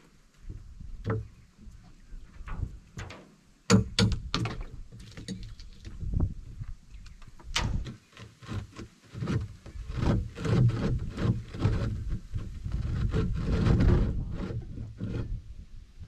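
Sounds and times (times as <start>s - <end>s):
metal scraping and knocking: 0.5s - 5.6s, 7.6s - 15.4s.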